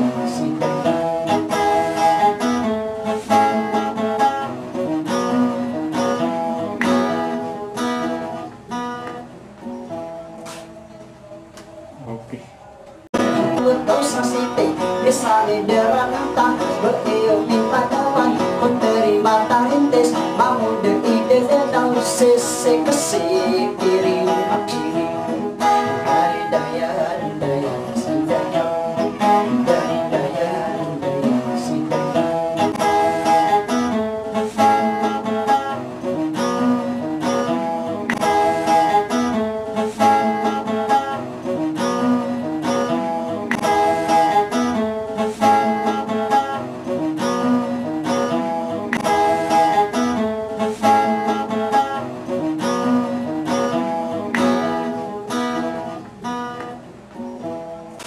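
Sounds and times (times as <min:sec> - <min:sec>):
acoustic guitar instrumental music: 0:00.0 - 0:58.0.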